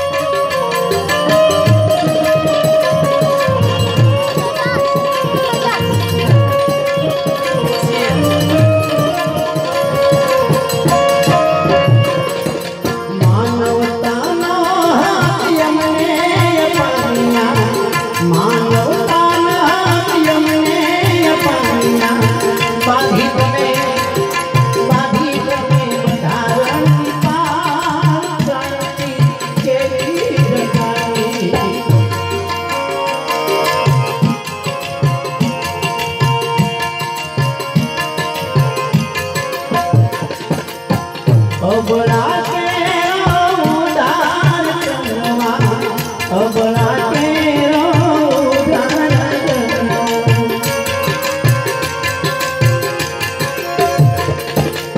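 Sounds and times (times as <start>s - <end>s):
man singing: 0.0s - 34.3s, 41.4s - 52.6s
harmonium melody: 0.0s - 54.9s
tabla drumming: 0.0s - 54.9s.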